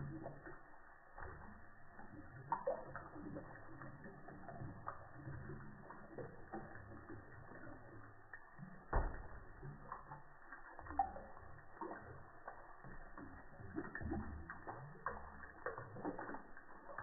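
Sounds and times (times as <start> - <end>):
running water low-pitched: 0.0 - 17.0.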